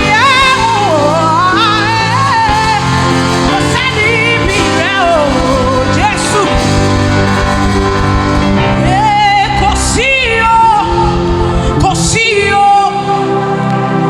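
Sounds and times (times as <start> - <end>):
band playing sustained chords: 0.0 - 14.0
person singing: 0.0 - 14.0.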